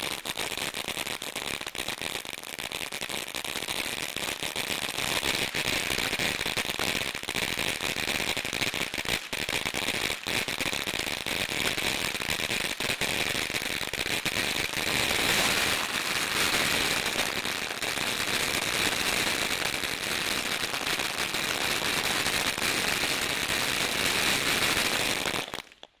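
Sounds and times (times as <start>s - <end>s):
firework crackling: 0.0s - 26.0s
firework fountain hissing: 4.6s - 25.7s.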